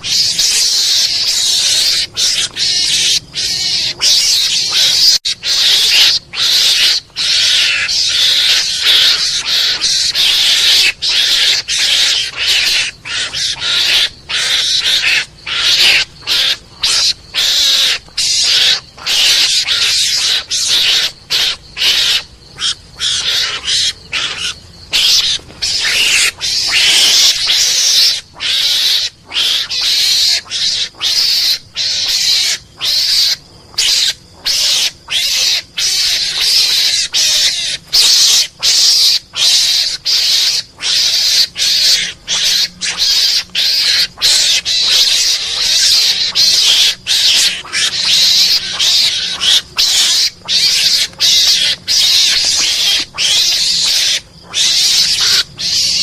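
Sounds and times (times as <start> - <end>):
harsh raspy animal chattering: 0.0 - 56.0.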